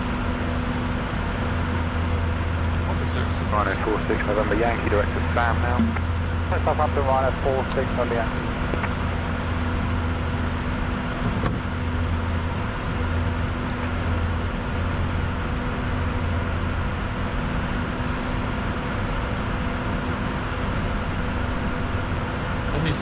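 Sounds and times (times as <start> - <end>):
constant low hum: 0.0 - 23.0.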